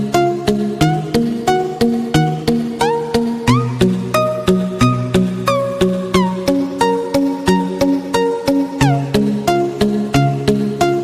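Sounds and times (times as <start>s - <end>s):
plucked string melody: 0.8s - 11.0s.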